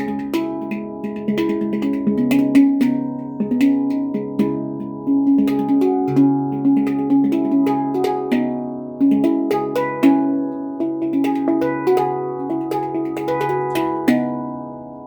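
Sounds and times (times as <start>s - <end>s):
handpan notes ringing: 0.0s - 15.0s.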